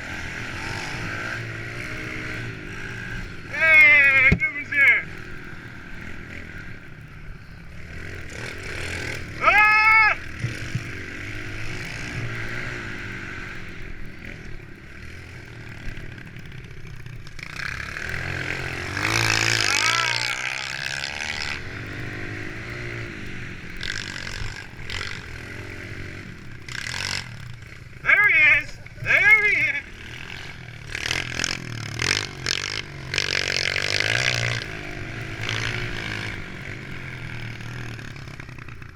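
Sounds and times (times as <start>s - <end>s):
motorbikes passing close: 0.0s - 38.9s
pit bike engines revving: 0.0s - 38.9s.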